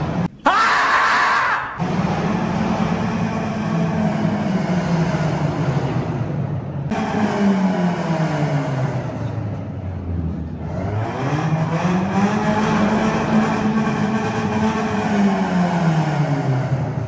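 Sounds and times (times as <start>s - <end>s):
car engine revving: 1.8s - 17.0s.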